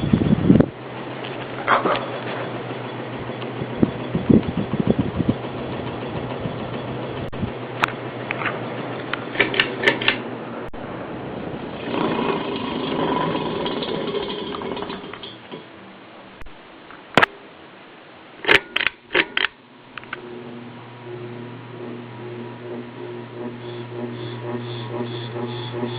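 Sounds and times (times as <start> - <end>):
ceiling fan humming: 0.0 - 25.9.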